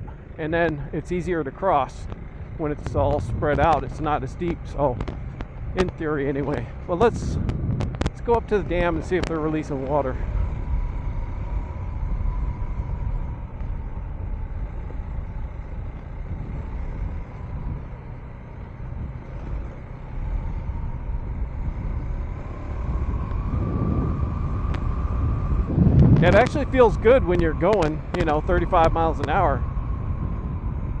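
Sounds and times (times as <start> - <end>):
motorcycle engine running: 0.0 - 31.0
wind and road rumble: 0.0 - 31.0.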